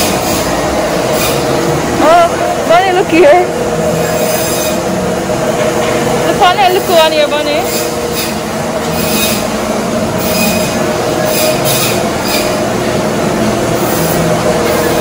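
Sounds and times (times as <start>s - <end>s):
machine drone: 0.0s - 15.0s.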